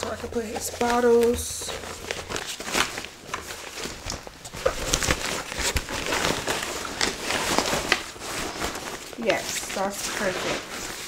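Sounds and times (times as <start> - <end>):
bag crinkling and rustling: 0.0 - 11.0.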